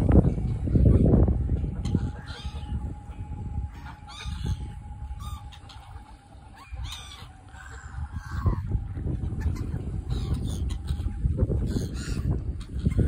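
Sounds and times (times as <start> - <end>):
wind on microphone: 0.0 - 13.0
ducks quacking: 0.5 - 13.0
waterfowl honking: 0.5 - 13.0.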